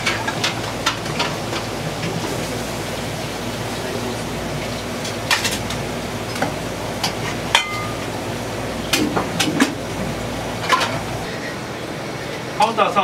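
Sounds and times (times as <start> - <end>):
kitchen noise hiss: 0.0 - 13.0.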